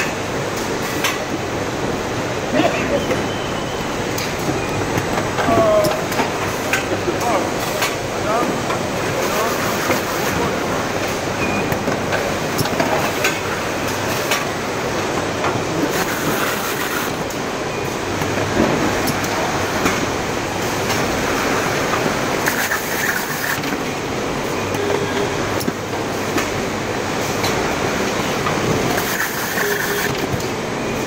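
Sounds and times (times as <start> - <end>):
factory machinery clattering: 0.0 - 31.0.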